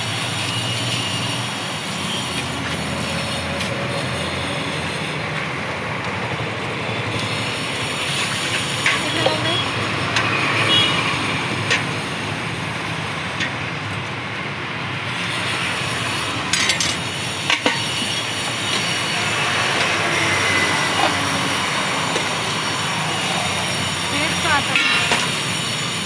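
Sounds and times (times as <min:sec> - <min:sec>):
street traffic noise: 0:00.0 - 0:26.0.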